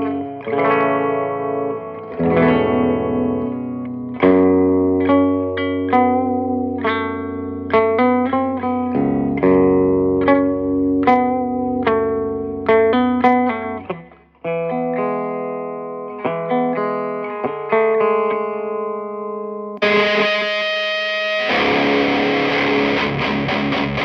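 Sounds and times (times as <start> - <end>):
distorted guitar chords: 0.0 - 24.0
electric guitar notes and chords: 0.0 - 24.0.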